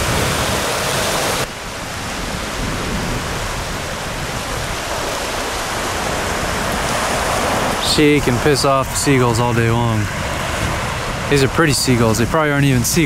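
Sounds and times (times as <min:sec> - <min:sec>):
small ocean waves breaking: 0:00.0 - 0:13.0.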